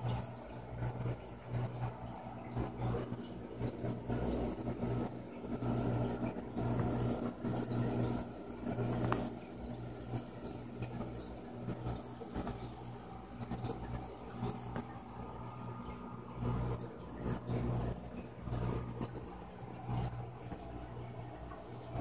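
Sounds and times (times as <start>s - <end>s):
pump electric hum: 0.0s - 22.0s
running water splashing: 0.0s - 22.0s.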